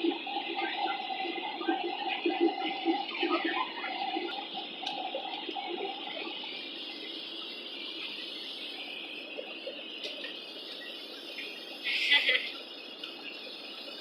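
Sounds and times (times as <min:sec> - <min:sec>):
airliner cabin noise: 0:00.0 - 0:14.0.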